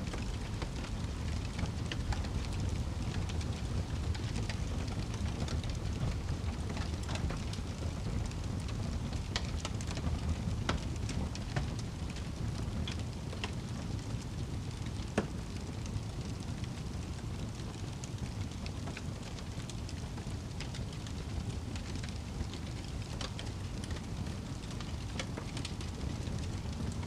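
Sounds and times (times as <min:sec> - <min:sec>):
fire rumbling in fireplace: 0:00.0 - 0:27.0
logs crackling and popping: 0:00.0 - 0:27.0.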